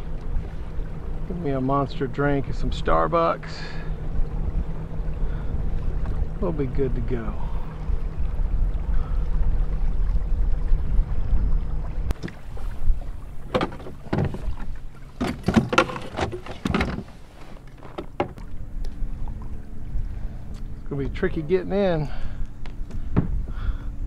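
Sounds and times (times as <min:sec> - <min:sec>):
paddle splashes and hull knocks: 0:00.0 - 0:21.6, 0:22.5 - 0:23.6
wind rumbling on microphone: 0:04.0 - 0:17.2, 0:18.0 - 0:24.0.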